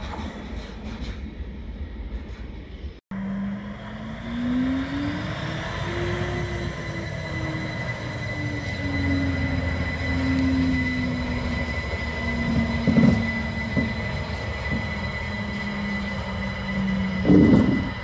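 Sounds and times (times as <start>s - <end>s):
diesel locomotive engine: 0.0s - 18.0s
high whine: 3.1s - 18.0s.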